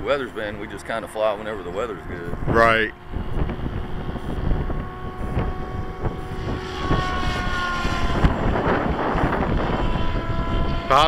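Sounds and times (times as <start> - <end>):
remote-control helicopter whine: 0.0 - 11.0.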